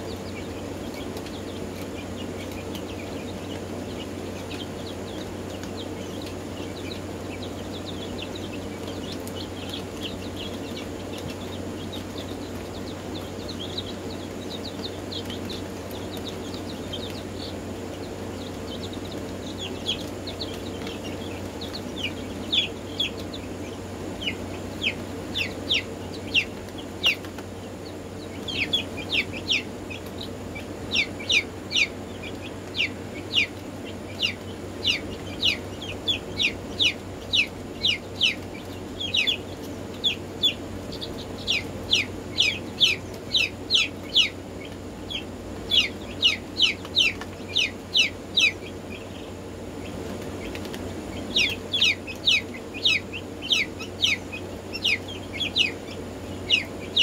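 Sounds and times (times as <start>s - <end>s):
chicks peeping: 0.0s - 57.0s
steady low hum: 0.0s - 57.0s.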